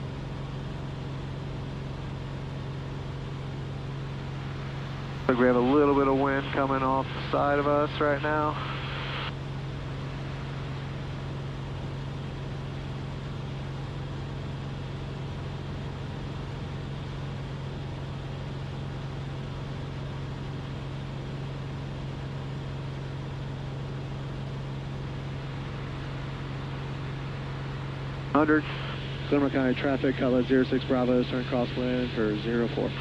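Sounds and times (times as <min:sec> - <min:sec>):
airplane engine and propeller droning: 0:00.0 - 0:33.0.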